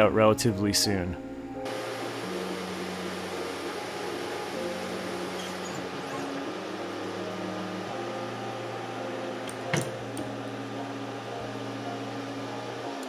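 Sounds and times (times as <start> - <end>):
fan hum: 0.0 - 13.0
motor tones: 1.6 - 13.0.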